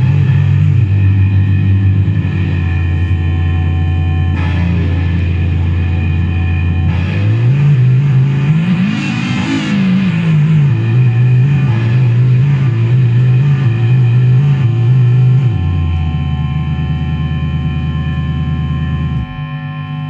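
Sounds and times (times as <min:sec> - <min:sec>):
buzzy low synthesizer tone: 0:00.0 - 0:20.0.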